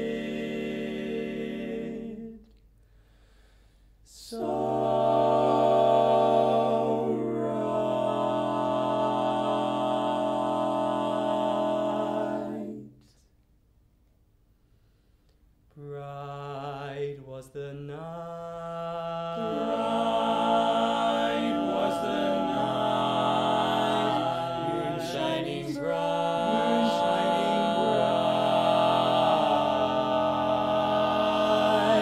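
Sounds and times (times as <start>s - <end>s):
male quartet singing harmony: 0.0s - 2.4s, 4.1s - 12.9s, 15.9s - 32.0s.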